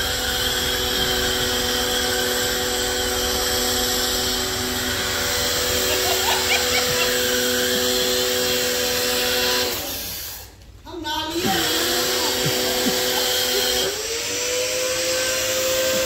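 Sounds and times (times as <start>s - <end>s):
pressure washer running: 0.0s - 10.6s, 11.4s - 16.0s.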